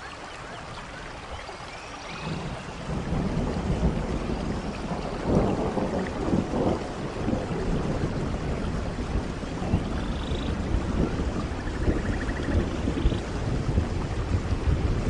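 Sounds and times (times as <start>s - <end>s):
steady rain: 0.0s - 15.0s
rolling thunder rumble: 2.2s - 15.0s.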